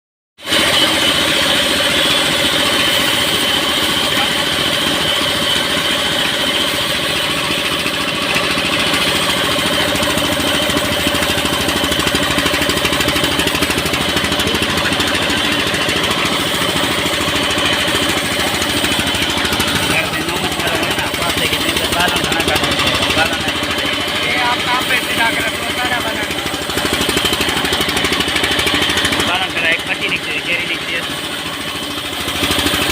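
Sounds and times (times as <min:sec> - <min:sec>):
sawmill machinery drone: 0:00.4 - 0:32.9.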